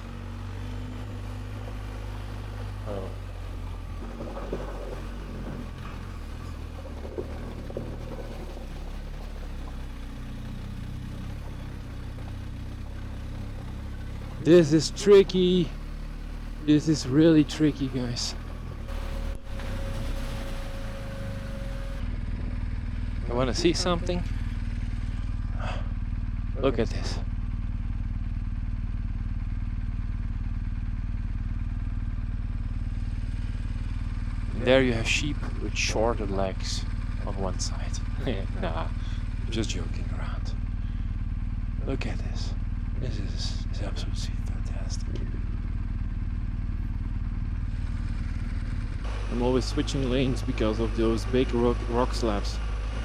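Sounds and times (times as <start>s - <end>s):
motorcycle engine idling: 0.0s - 53.0s.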